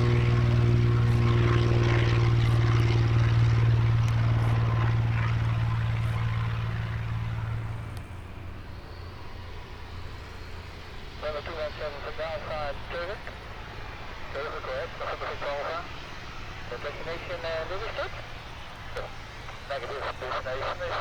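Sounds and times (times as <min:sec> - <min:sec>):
propeller aircraft engine: 0:00.0 - 0:21.0.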